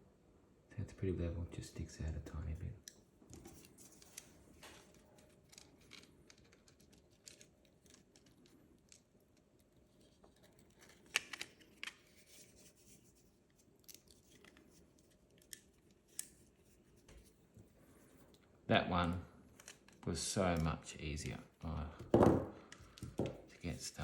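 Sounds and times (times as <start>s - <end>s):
faint clicks of small parts: 2.0s - 24.0s.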